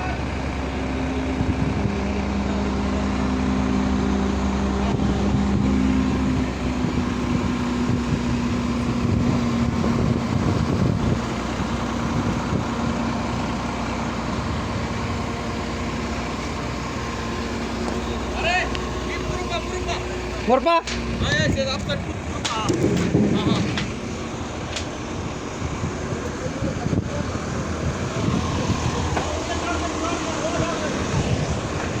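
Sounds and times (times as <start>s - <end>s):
excavator engine running: 0.0s - 32.0s.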